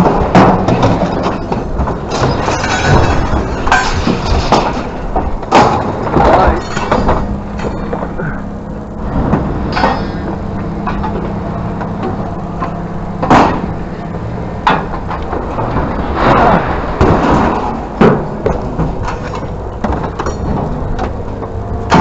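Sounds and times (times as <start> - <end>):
metal scraping and rattling: 0.0 - 22.0
scrap metal clanking: 0.0 - 22.0.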